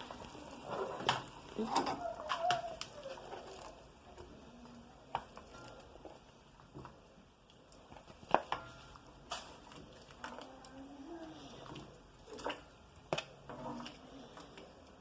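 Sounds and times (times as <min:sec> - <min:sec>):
soft wet handling: 0:00.0 - 0:15.0.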